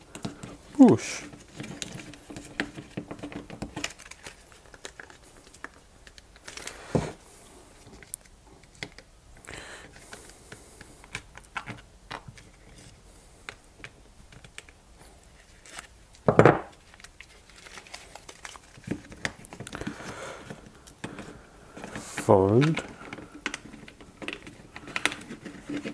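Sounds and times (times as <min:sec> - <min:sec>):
bark strips crinkling and rustling: 0:00.0 - 0:06.9, 0:07.5 - 0:09.1, 0:09.9 - 0:25.9.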